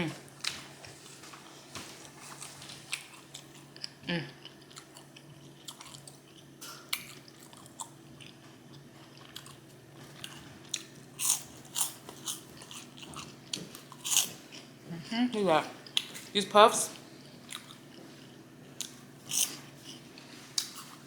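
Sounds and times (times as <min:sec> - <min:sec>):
person chewing food: 0:00.4 - 0:14.8, 0:17.2 - 0:21.0.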